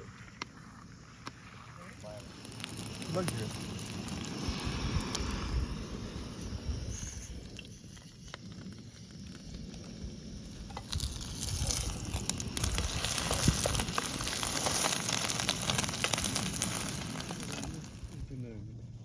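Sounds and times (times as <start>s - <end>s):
crackling and sizzling: 0.0s - 19.0s
low wind rumble: 0.0s - 19.0s.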